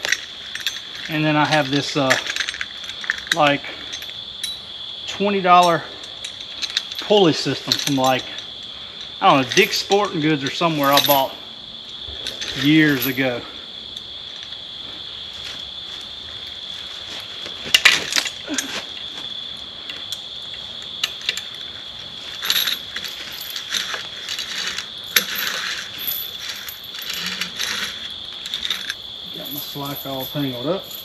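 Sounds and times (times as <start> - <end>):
rope pulley hardware clinking: 0.0 - 4.7, 5.5 - 14.6, 19.8 - 31.0
insect trill: 0.0 - 31.0.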